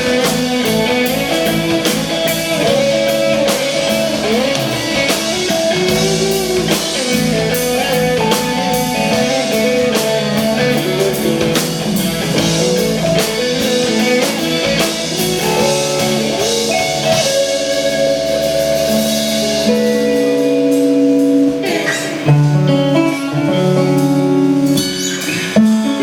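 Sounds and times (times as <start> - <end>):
drum kit beat: 0.0 - 26.0
guitar: 0.0 - 26.0
instrumental band music: 0.0 - 26.0.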